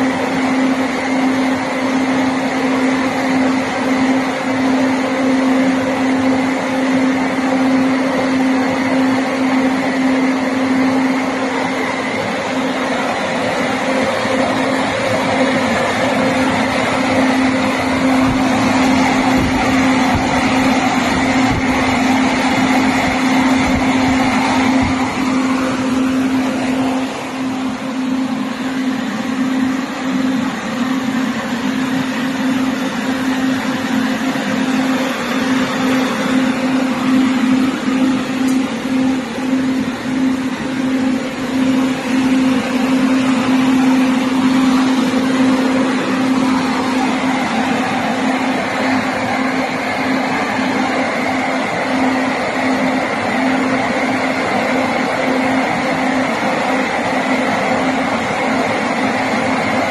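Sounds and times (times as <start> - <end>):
constant droning hum: 0.0 - 59.9
fans rushing air: 0.0 - 59.9.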